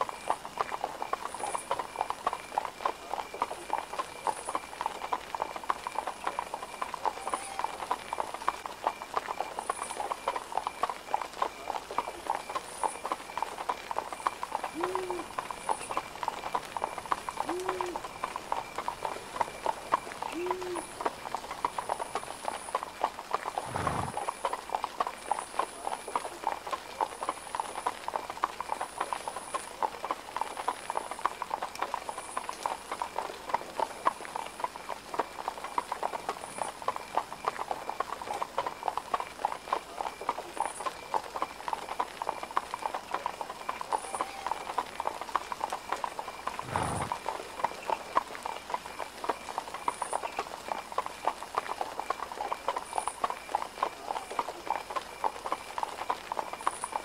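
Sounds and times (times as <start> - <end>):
horse hooves clip-clopping: 0.0 - 57.0.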